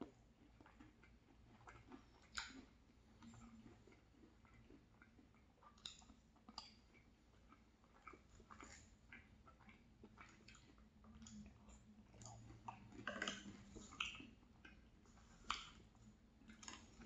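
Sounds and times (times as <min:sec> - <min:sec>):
mouth clicks and smacks: 0:00.0 - 0:17.0
wet chewing: 0:00.0 - 0:17.0.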